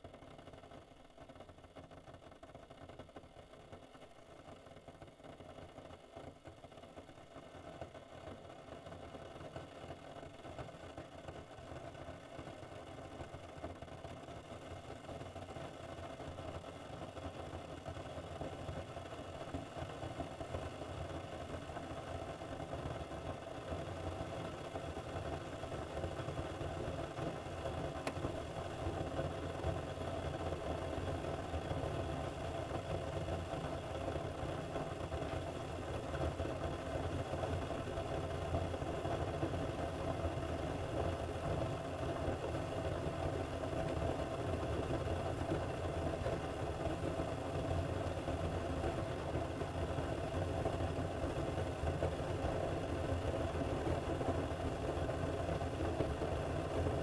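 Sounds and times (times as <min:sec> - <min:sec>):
coffee maker pump humming: 0:00.0 - 0:57.0.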